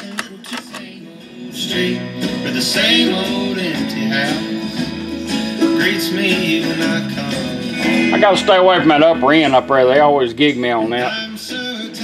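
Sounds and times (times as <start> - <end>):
song with guitar and singing: 0.0 - 12.0.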